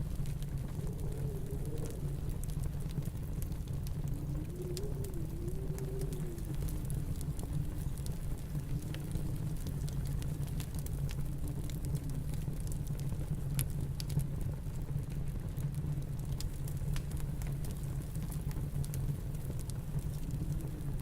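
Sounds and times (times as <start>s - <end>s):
snowstorm wind rumbling: 0.0s - 12.8s, 16.2s - 21.0s
fire popping: 0.0s - 21.0s
wood fire crackling: 0.0s - 21.0s.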